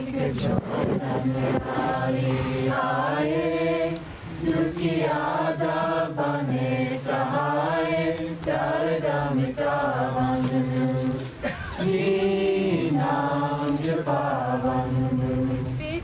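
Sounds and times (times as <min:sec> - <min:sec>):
devotional chanting: 0:00.0 - 0:16.0.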